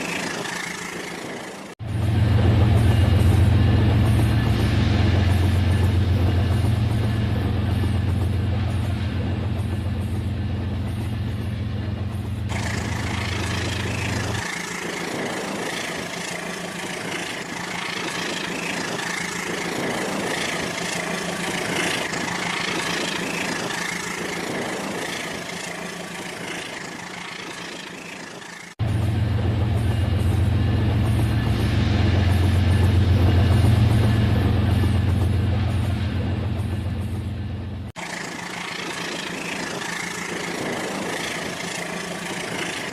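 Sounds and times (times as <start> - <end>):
engine-like rumble: 0.0 - 42.9.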